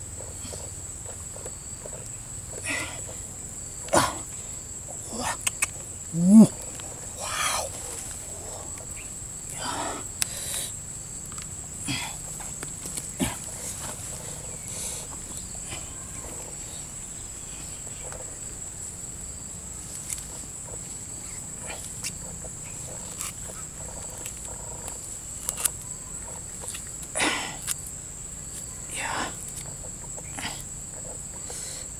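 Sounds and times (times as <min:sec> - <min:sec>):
high-pitched insect drone: 0:00.1 - 0:31.9.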